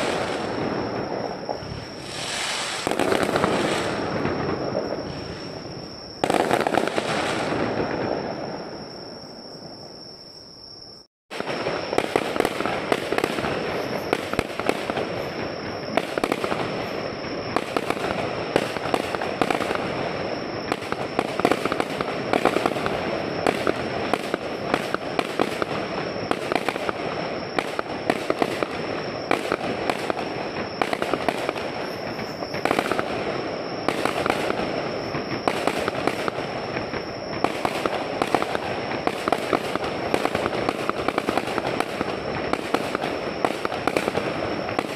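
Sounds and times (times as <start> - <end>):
fireworks crackling and popping: 0.0 - 8.9, 11.3 - 44.9.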